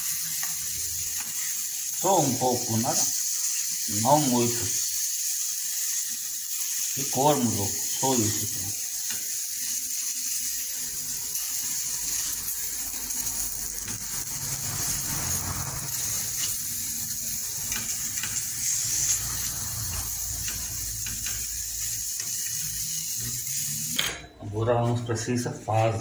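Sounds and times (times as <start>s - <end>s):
paneer sizzling in oil: 0.0s - 24.3s.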